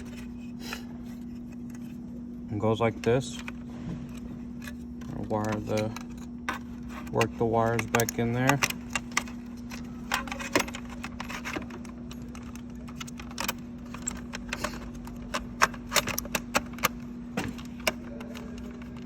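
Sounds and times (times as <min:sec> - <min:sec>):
steady low hum: 0:00.0 - 0:19.0
wires and plastic parts clicking: 0:02.7 - 0:19.0.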